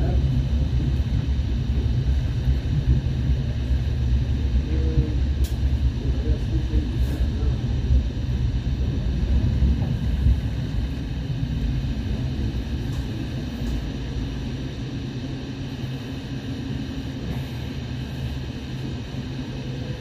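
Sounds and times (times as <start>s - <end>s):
faint hum: 0.0s - 20.0s
rumble of train wheels: 0.0s - 20.0s.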